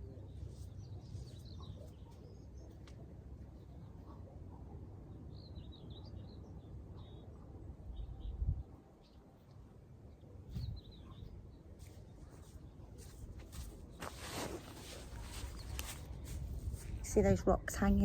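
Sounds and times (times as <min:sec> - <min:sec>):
small birds chirping: 0:00.0 - 0:09.3, 0:10.1 - 0:17.0.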